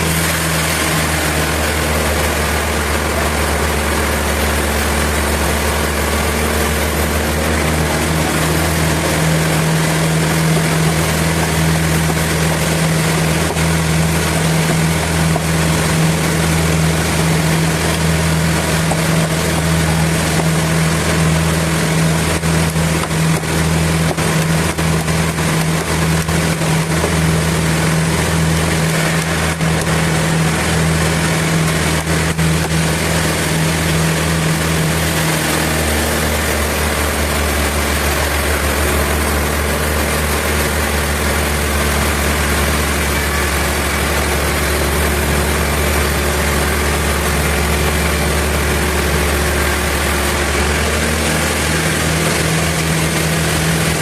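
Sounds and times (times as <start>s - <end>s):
pitched drone: 0.0s - 54.0s
sawmill machine hum: 0.0s - 54.0s.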